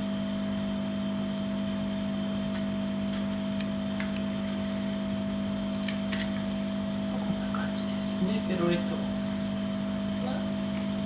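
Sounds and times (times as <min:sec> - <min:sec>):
electrical hum with whine: 0:00.0 - 0:11.0.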